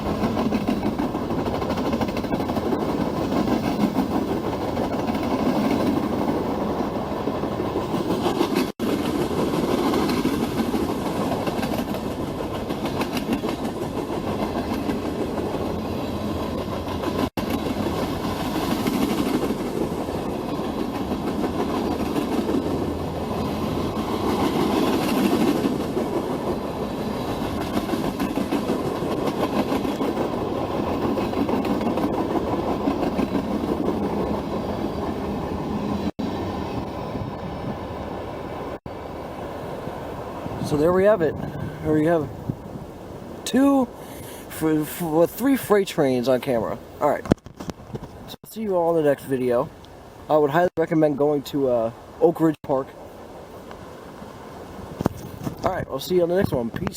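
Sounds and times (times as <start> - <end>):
freight train rumbling on rails: 0.0 - 56.9.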